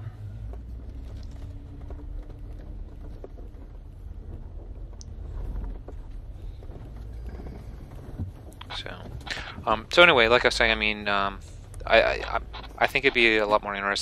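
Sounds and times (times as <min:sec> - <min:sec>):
low engine rumble: 0:00.0 - 0:14.0
tires knocking over rocks: 0:00.0 - 0:14.0.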